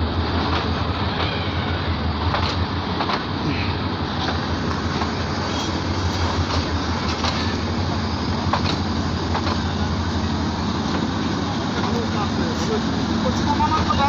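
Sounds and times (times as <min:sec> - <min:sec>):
train wheels rumbling on rails: 0:00.0 - 0:14.0
clacks at rail joints: 0:00.4 - 0:01.4, 0:02.2 - 0:03.5, 0:04.1 - 0:10.2, 0:10.8 - 0:14.0.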